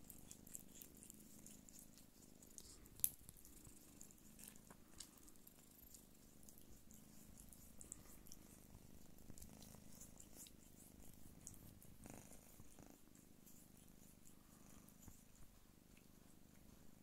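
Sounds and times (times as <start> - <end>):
cats purring: 0.0 - 17.0.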